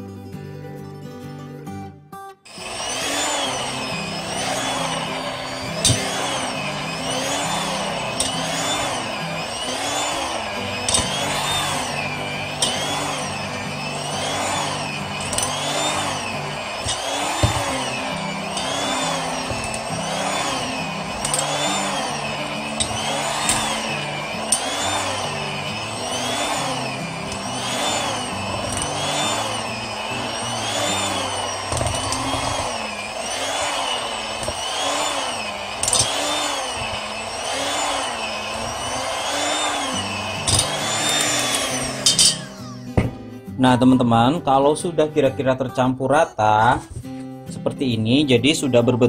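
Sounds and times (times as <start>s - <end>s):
hand mixer motor whine: 2.5s - 43.3s.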